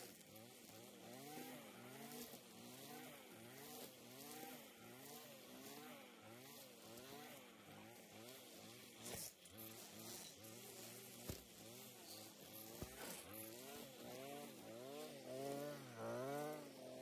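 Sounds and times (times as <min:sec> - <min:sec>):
string trimmer cutting grass: 0:00.0 - 0:17.0.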